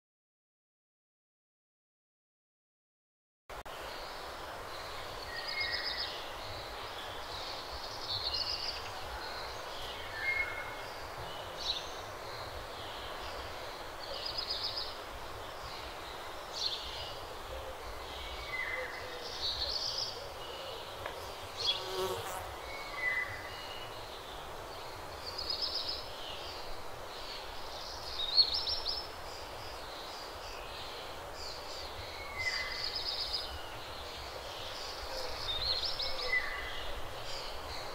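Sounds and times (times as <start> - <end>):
steady background hiss: 3.5 - 37.9.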